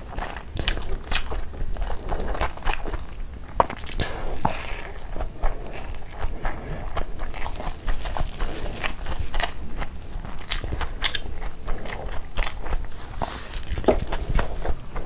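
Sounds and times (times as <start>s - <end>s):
mouth chewing food: 0.0s - 15.0s.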